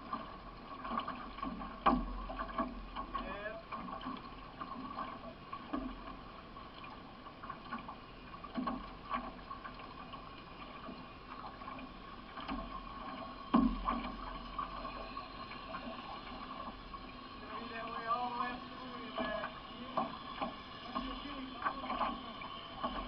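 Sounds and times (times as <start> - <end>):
paddle strokes splashing: 0.0 - 23.0
water washing along hull: 0.0 - 23.0.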